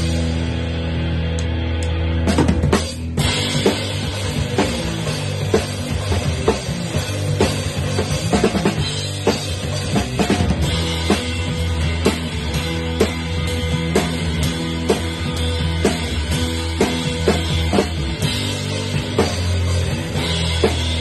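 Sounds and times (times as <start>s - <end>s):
drum kit beat: 0.0s - 21.0s
electric guitars and bass: 0.0s - 21.0s.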